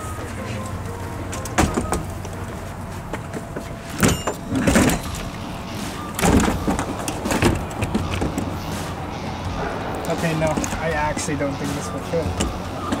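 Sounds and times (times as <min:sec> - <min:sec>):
stroller frame clunking: 0:00.0 - 0:08.6, 0:10.2 - 0:13.0.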